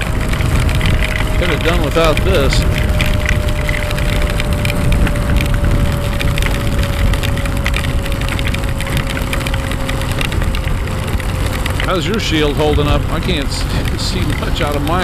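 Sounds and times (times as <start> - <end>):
low rumble: 0.0 - 15.0
raindrops crackling: 0.0 - 15.0
wind noise: 0.0 - 15.0.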